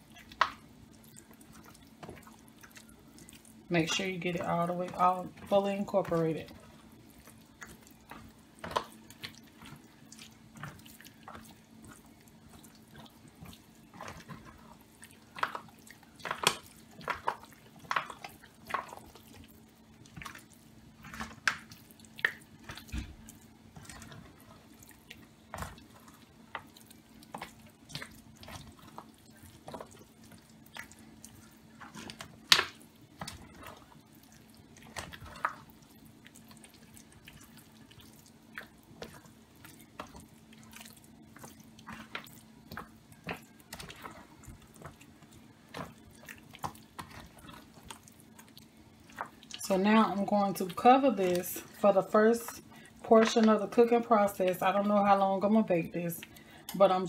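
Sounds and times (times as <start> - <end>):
spatula stirring wet mixture: 0.0 - 57.0.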